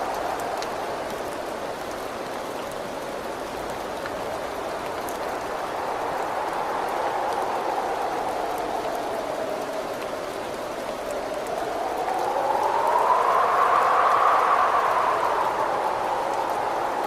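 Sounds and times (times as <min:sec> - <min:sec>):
rain beating on a window: 0:00.0 - 0:17.0.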